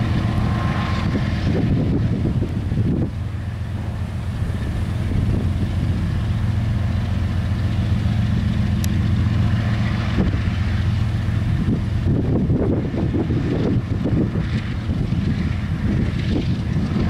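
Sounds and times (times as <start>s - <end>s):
diesel locomotives droning: 0.0s - 17.0s.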